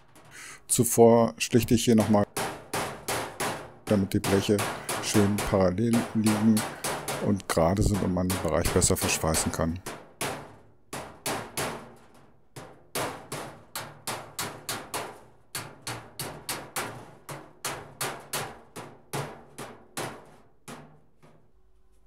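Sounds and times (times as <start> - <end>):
hammer striking steel panel: 0.0 - 0.5, 1.5 - 21.5.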